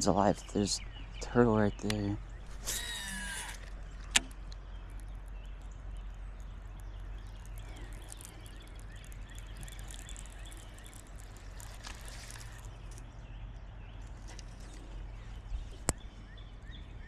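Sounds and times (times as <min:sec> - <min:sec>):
bird calls: 0:00.0 - 0:17.0
steady low hum: 0:00.0 - 0:17.0.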